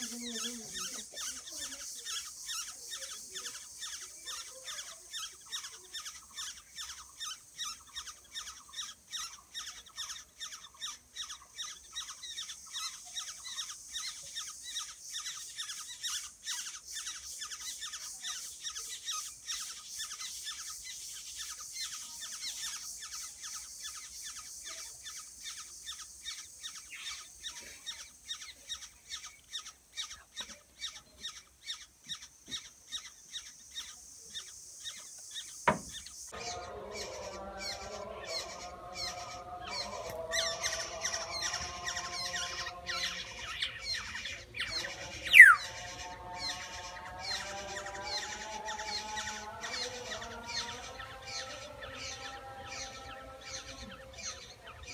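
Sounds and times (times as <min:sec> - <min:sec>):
nestlings begging calls: 0:00.0 - 0:54.9.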